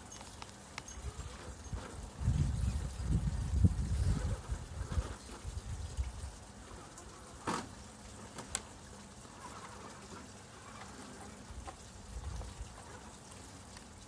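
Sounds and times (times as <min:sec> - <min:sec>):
small waterfall trickling: 0:00.0 - 0:14.0.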